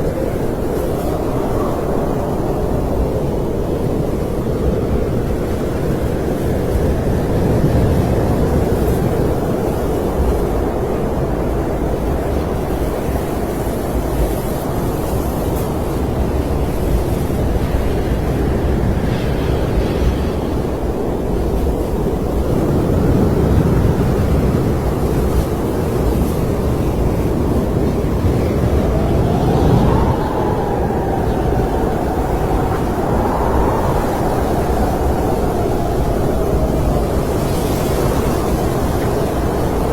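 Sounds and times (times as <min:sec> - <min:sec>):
faint rising wind whistle: 0:00.0 - 0:39.9
snowstorm wind rushing: 0:00.0 - 0:39.9.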